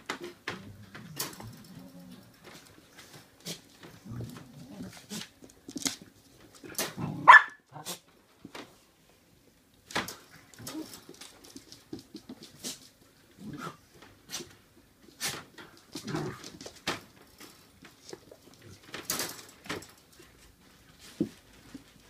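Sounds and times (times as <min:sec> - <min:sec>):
paws clicking and scuffling on tiles: 0:00.0 - 0:08.9, 0:09.7 - 0:22.0.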